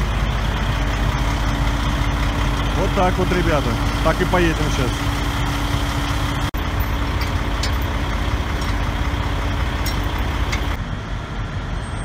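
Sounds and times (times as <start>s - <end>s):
diesel engine idling: 0.0s - 11.7s.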